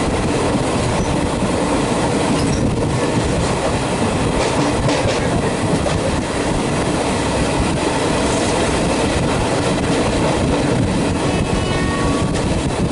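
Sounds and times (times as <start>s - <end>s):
train rumbling past: 0.0s - 12.9s.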